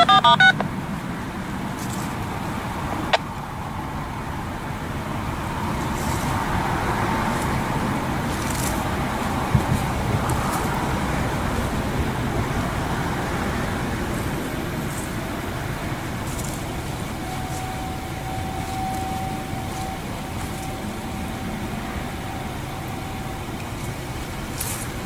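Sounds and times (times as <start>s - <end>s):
distant warning siren: 0.0s - 25.0s
outdoor background rush: 0.0s - 25.0s.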